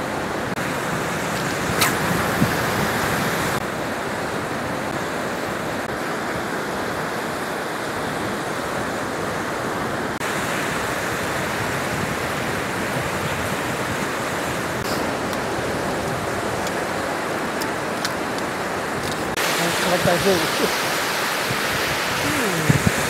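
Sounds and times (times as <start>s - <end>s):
surf breaking on a beach: 0.0s - 23.0s.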